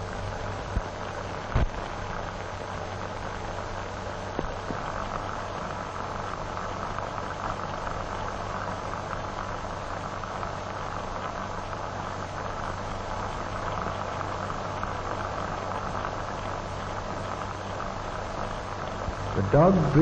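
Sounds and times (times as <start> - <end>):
film soundtrack hiss and hum: 0.0 - 20.0.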